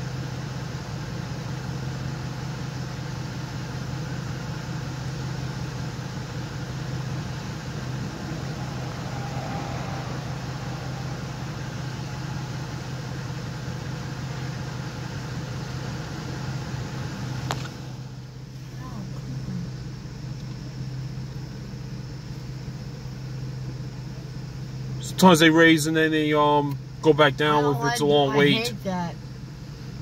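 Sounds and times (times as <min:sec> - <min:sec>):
car idling hum: 0:00.0 - 0:30.0.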